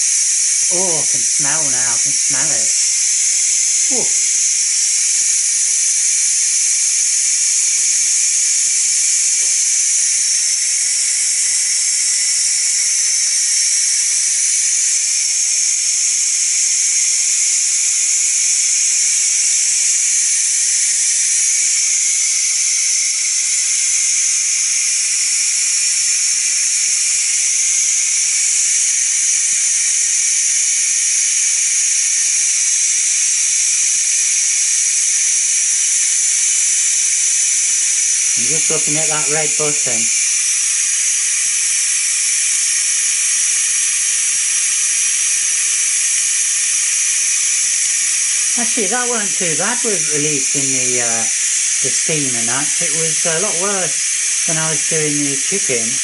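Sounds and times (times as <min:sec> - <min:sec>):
pressure cooker venting steam: 0:00.0 - 0:56.0.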